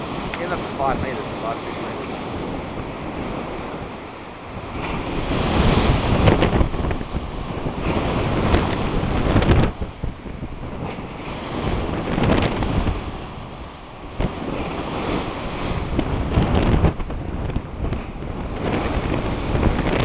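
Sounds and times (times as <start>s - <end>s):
white water rushing along hull: 0.0s - 20.0s
wind buffeting microphone: 0.0s - 20.0s.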